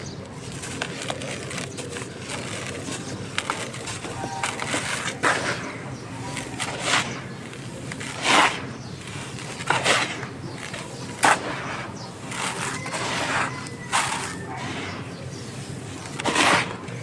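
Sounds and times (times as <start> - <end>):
chalky stones crunching: 0.0 - 17.0.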